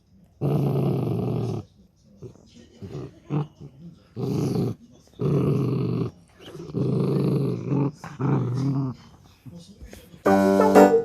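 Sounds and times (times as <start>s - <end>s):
dog growling: 0.4s - 9.2s.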